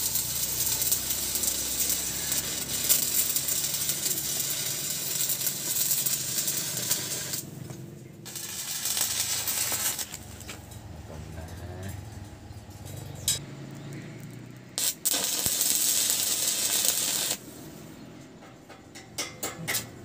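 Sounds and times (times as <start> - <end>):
welding arc crackling and sizzling: 0.0 - 12.3, 13.2 - 17.7.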